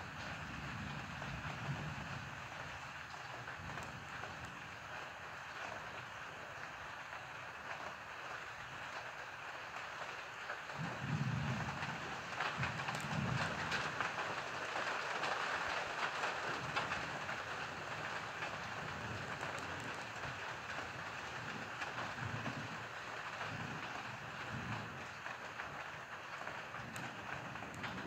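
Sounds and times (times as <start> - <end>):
steady rain hissing: 0.0 - 28.0
low thunder rumbles: 0.1 - 6.1, 10.7 - 15.0, 15.7 - 28.0.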